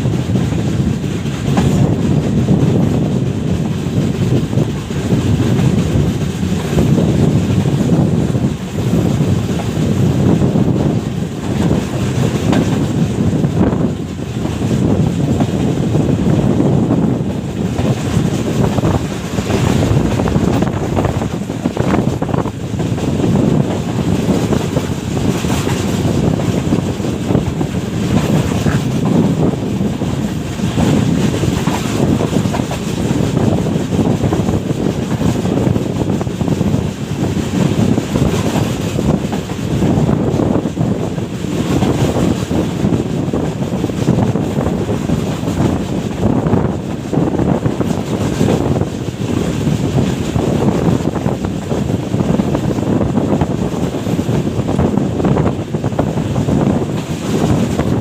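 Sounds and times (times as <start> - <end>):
passenger train rumbling: 0.0 - 58.0
wind buffeting microphone: 0.0 - 58.0.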